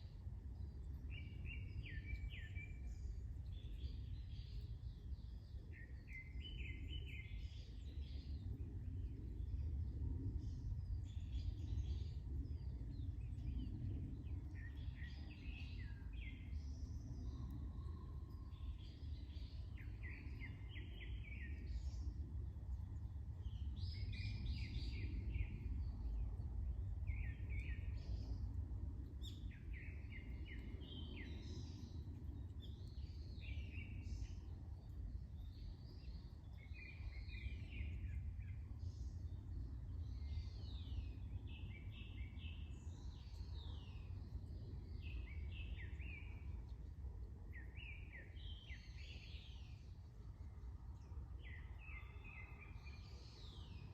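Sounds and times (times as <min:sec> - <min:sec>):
low rumble of wind: 0:00.0 - 0:53.9
songbirds chirping: 0:00.0 - 0:53.9.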